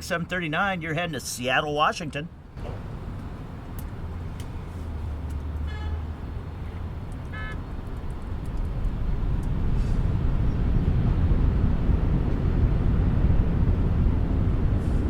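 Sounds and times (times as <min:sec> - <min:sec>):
jet engines rumbling: 0:02.6 - 0:15.0.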